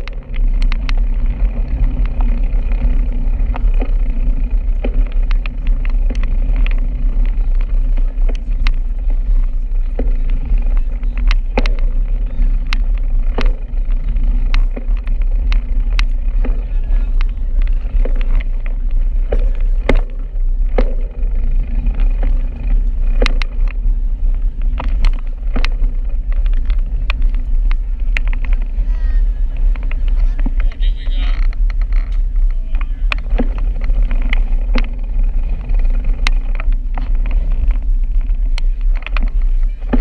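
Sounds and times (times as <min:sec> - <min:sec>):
bicycle road noise: 0:00.0 - 0:40.0
sharp clicks and knocks: 0:00.0 - 0:40.0
wind rumble on microphone: 0:00.0 - 0:40.0.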